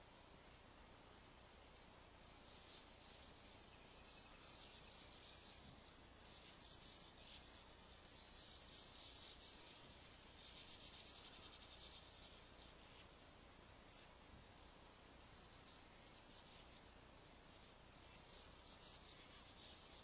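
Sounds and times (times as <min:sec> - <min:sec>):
sand martins twittering: 0:00.0 - 0:20.0.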